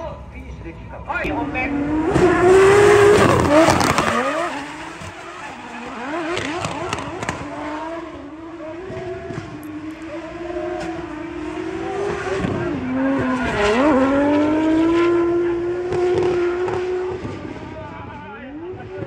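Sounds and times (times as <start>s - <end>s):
car engine revving high: 1.2s - 17.8s.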